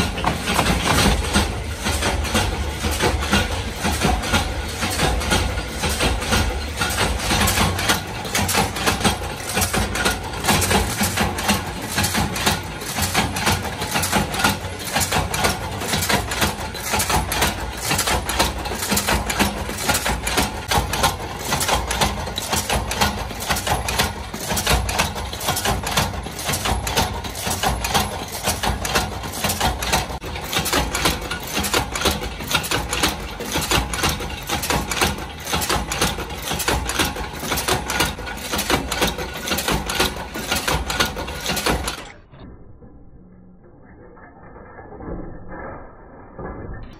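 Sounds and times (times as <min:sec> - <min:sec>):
power press metallic clanks: 0:00.0 - 0:42.2.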